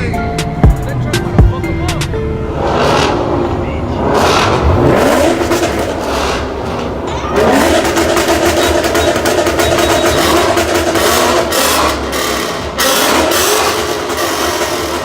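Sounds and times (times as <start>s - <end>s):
car engine revving hard: 2.4s - 15.0s.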